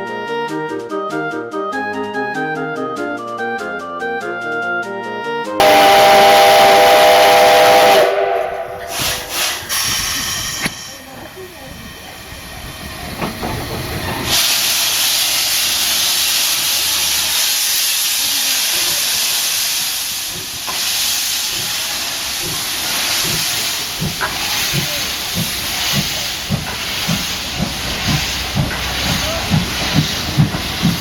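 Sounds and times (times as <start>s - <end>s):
steam exhaust beats: 5.6s - 31.0s
steam locomotive hissing: 5.6s - 31.0s.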